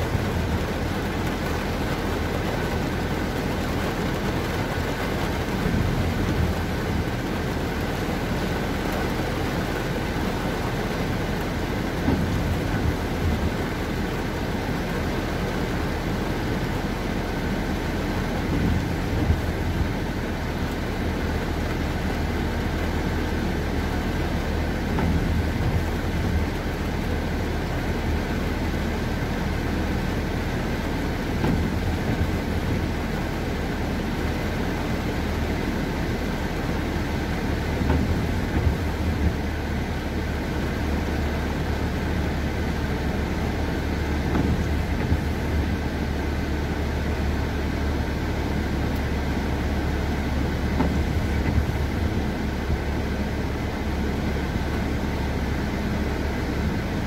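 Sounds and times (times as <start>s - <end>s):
car cabin rumble: 0.0s - 57.0s
rain on windscreen: 0.0s - 57.0s
tyres on wet road: 0.0s - 57.0s.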